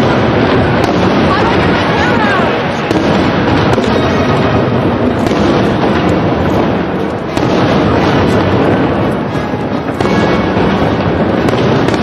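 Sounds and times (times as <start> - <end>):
fireworks crackling: 0.0 - 12.0
sharp firework bangs: 0.0 - 12.0.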